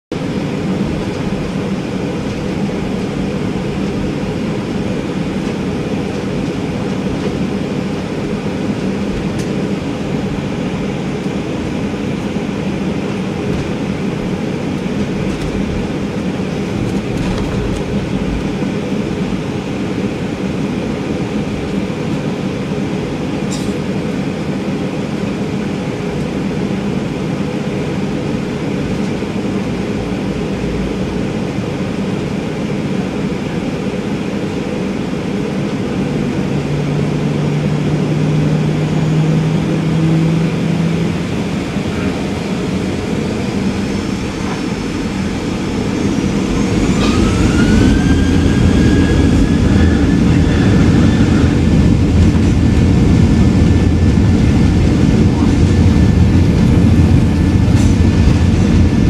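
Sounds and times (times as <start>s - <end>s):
low drone of jet engines: 0.1s - 59.0s.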